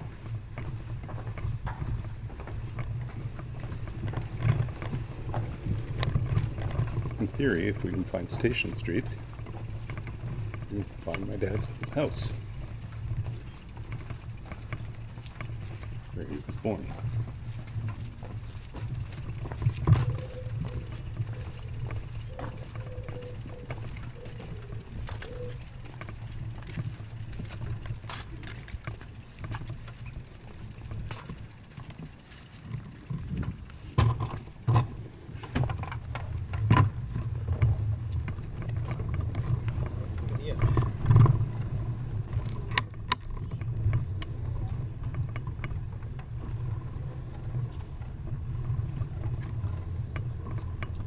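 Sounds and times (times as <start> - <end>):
bicycle clicks and rattles: 0.0 - 51.0
wheels rumbling on brick paving: 0.0 - 51.0.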